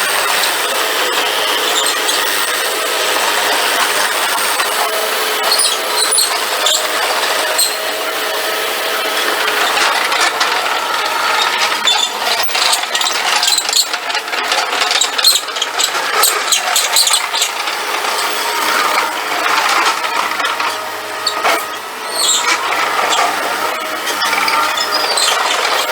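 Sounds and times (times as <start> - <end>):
track loader engine running: 0.0 - 25.9
tracks and bucket clanking: 0.0 - 25.9.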